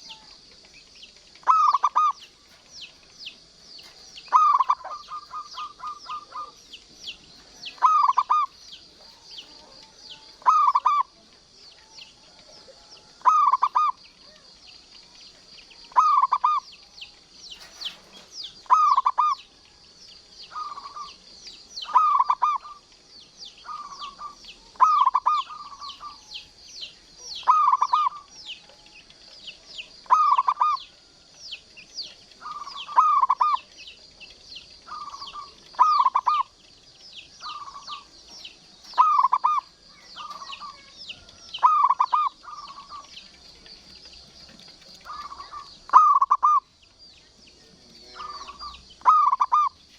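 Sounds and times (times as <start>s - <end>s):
dove cooing: 0.0s - 15.1s, 15.7s - 19.7s, 20.4s - 46.8s, 47.6s - 49.9s
thin high chirping: 0.0s - 19.6s, 20.2s - 49.9s.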